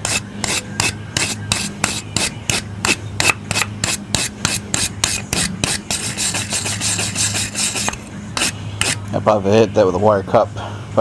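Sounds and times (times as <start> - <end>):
wire brush scrubbing metal: 0.0 - 9.0.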